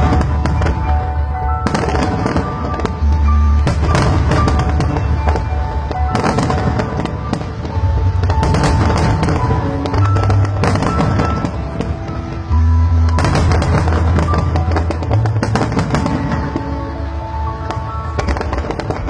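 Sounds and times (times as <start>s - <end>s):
fireworks bursting and crackling: 0.0s - 19.0s
music with held notes: 0.0s - 19.0s.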